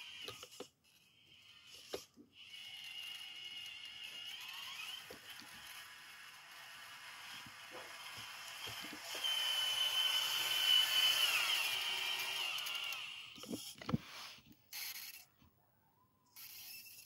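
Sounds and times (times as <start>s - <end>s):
electric motor and gearbox whining: 0.0s - 15.3s, 16.3s - 17.0s.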